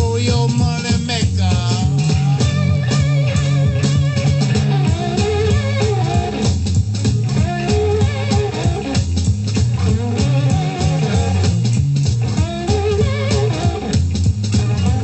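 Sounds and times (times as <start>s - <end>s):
electric slide guitar blues: 0.0s - 15.0s
steady drum beat: 0.0s - 15.0s.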